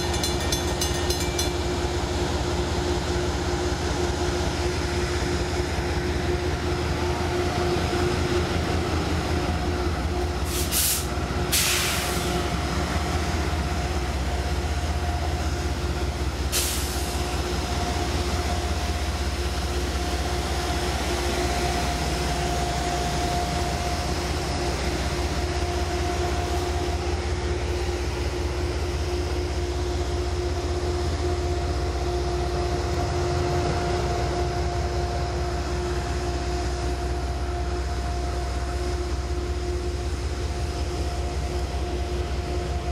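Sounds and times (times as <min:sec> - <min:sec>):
diesel locomotive rumbling: 0:00.0 - 0:42.9.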